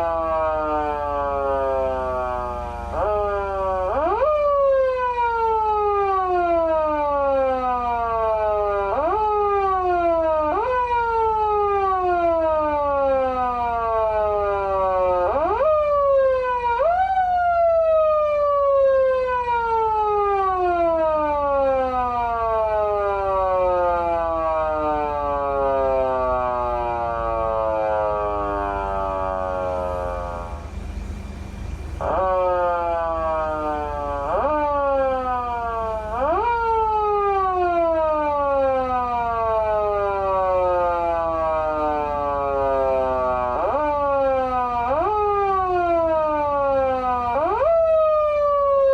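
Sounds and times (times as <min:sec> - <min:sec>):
electronic wail siren: 0:00.0 - 0:48.9.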